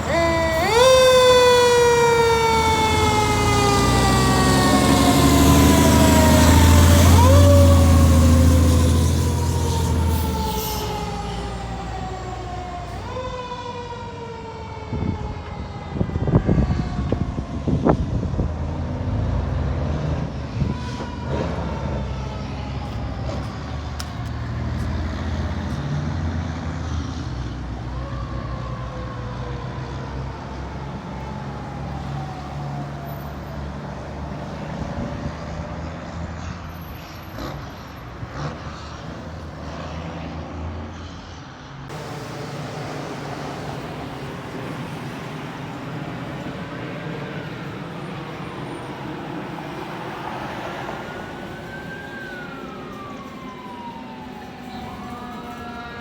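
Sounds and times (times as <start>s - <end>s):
truck engine rumble: 0.0s - 39.8s, 41.9s - 56.0s
fire truck siren wailing: 0.0s - 41.0s, 41.9s - 56.0s.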